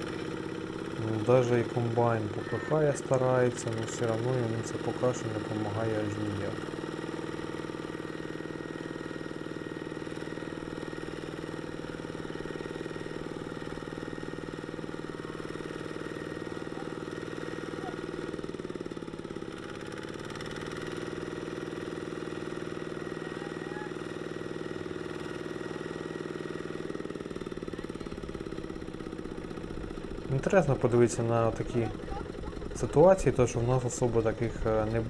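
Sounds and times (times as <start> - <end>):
combine harvester engine: 0.0 - 35.0
tractor engine running: 0.0 - 35.0.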